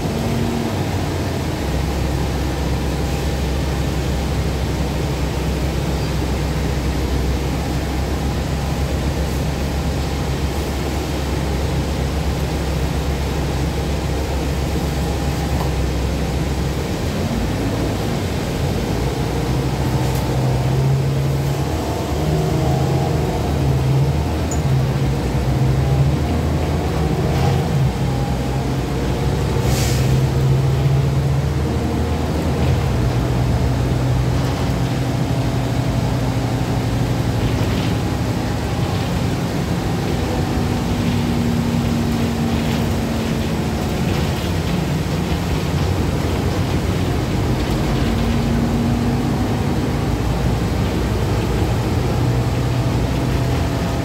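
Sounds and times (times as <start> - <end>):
bus engine idling and accelerating: 0.0 - 54.0.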